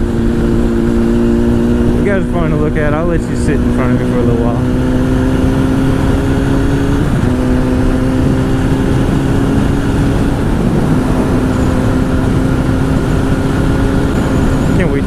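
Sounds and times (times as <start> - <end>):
motorcycle engine cruising: 0.0 - 15.0
wind rumble on microphone: 0.0 - 15.0.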